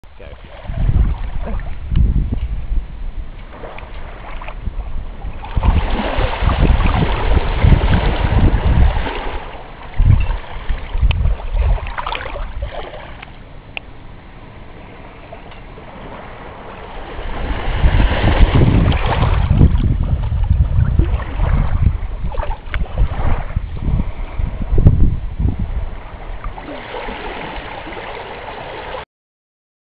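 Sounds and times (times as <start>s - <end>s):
wind buffeting microphone: 0.1s - 28.2s
small waves washing: 0.1s - 29.0s.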